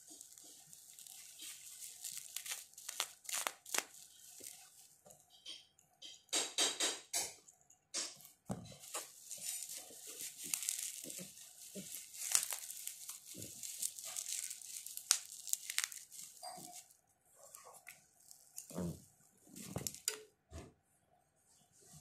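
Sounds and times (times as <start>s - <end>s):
bubble wrap crinkling: 0.0s - 5.4s, 8.0s - 20.3s.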